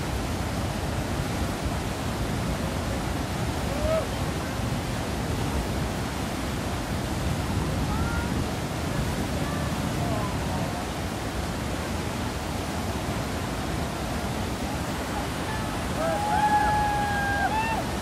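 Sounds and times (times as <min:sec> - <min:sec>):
river rushing through rapids: 0:00.0 - 0:18.0.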